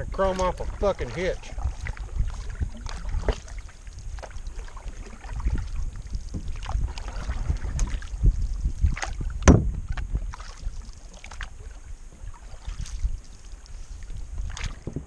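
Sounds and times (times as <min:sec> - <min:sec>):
paddle splashing in water: 0:00.0 - 0:15.0
wind rumble on microphone: 0:00.0 - 0:15.0.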